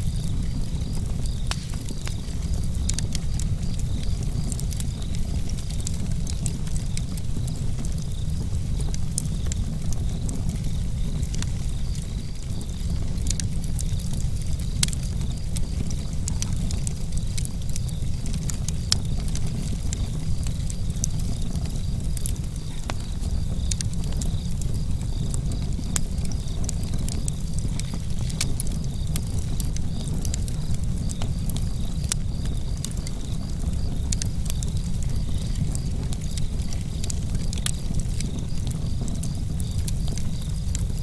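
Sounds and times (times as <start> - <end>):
campfire crackling and popping: 0.0 - 41.0
crickets chirping: 0.0 - 41.0.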